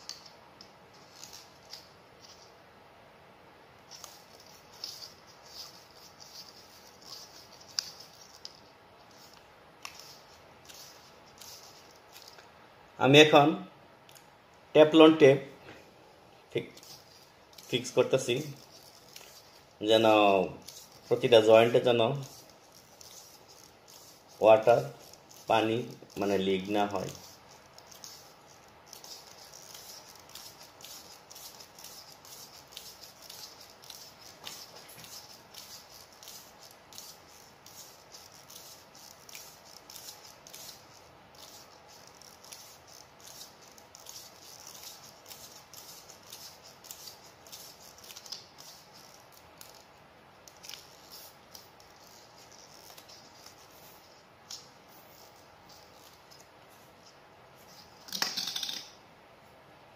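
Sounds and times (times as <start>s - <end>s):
tape crackling and rustling: 0.0s - 2.6s, 3.8s - 12.6s, 16.5s - 58.7s.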